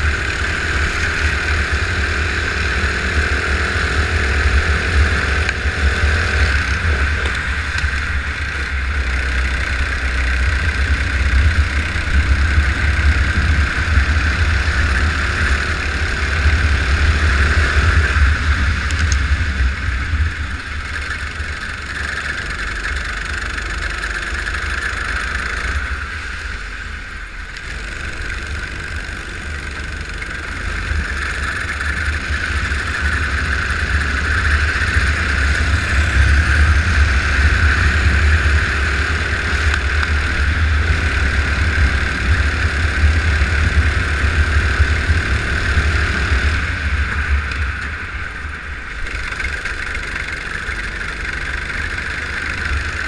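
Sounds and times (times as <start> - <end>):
go-kart engine running: 0.0 - 53.0
heavy low rumble: 0.0 - 53.0.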